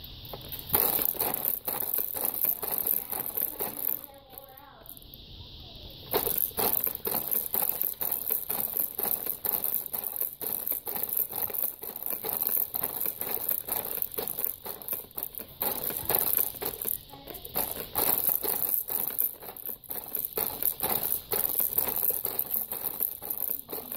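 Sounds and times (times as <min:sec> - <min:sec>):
plastic toys rattling and clattering: 0:00.0 - 0:05.3, 0:06.0 - 0:23.9.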